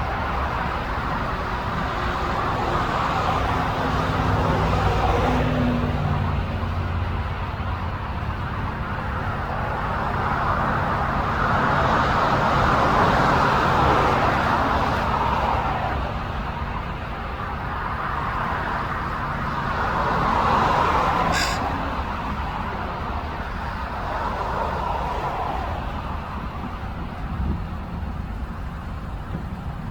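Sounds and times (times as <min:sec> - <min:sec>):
low engine hum: 0:00.0 - 0:29.9
passing vehicles: 0:00.0 - 0:29.9.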